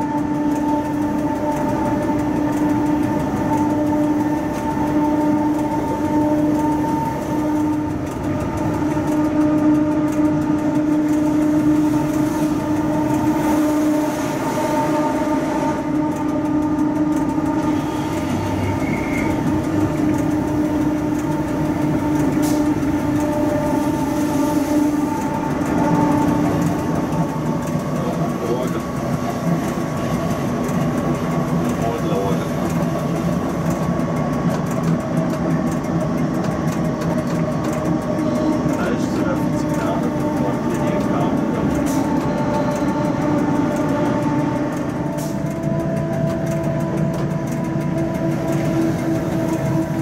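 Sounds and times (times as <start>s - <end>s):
locomotive droning hum: 0.0s - 50.0s
wheels rumbling on rails: 0.0s - 50.0s.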